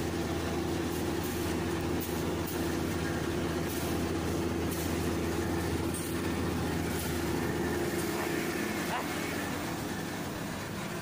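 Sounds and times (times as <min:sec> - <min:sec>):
harvester engine humming: 0:00.0 - 0:11.0.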